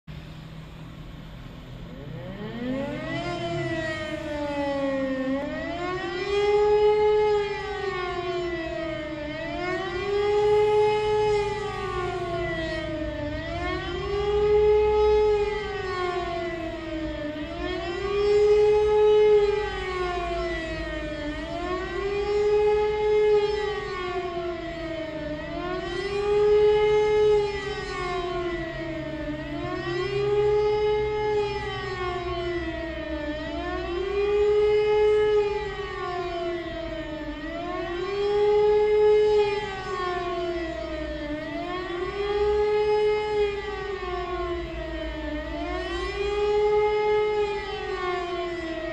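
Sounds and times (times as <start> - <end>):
civil defence siren wailing: 0.0 - 48.9.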